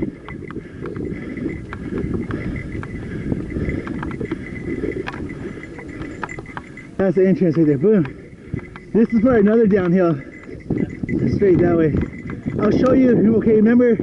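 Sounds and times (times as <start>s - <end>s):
bike clicks and rattles: 0.0s - 13.8s.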